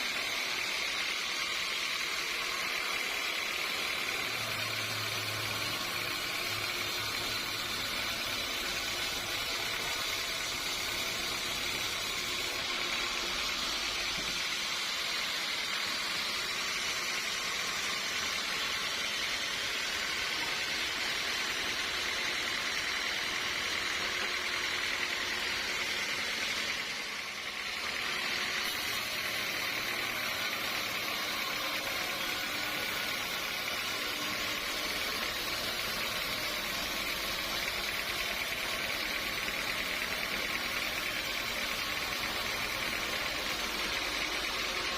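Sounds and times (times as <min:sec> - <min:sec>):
sawmill machinery hissing: 0:00.0 - 0:44.9.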